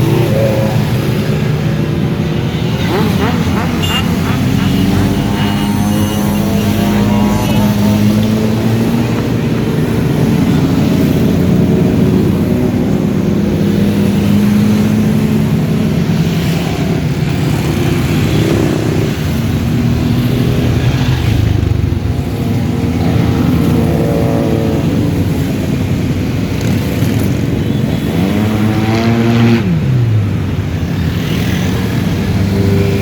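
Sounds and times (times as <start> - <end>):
motorcycle engine revving: 0.0 - 33.0
motorcycle engines running: 0.0 - 33.0.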